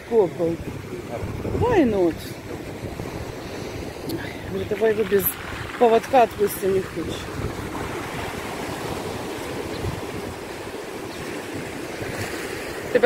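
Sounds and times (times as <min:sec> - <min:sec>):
small waves breaking on shore: 0:00.0 - 0:13.0.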